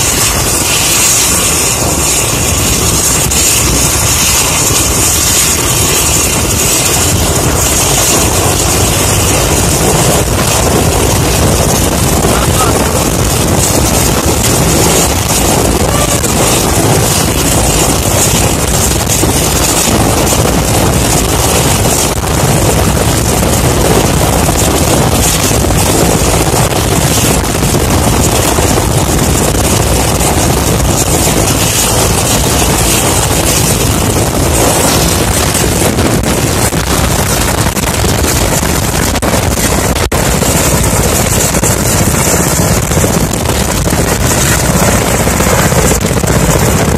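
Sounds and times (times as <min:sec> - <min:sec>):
helicopter engines and rotors running: 0:00.0 - 0:46.9.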